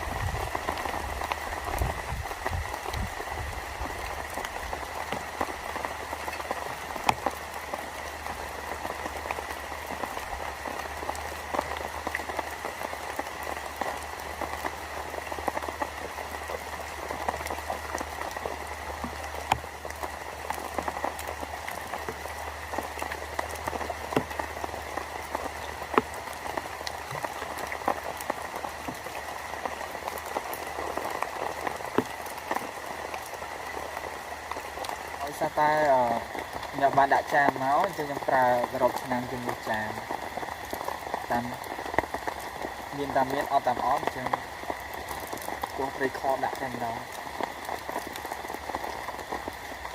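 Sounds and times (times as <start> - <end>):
raindrop ticks: 0.0 - 49.9
steady rain falling: 0.0 - 49.9.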